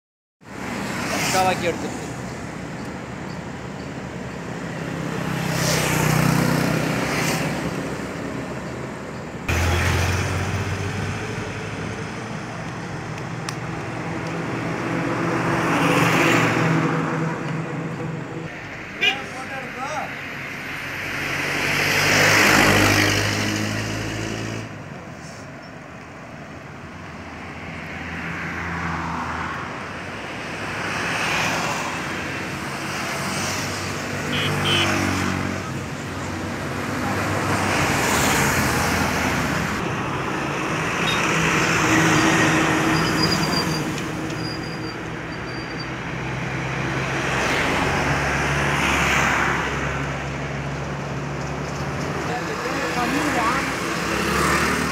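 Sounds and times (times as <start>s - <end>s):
vehicles passing: 0.4s - 54.9s.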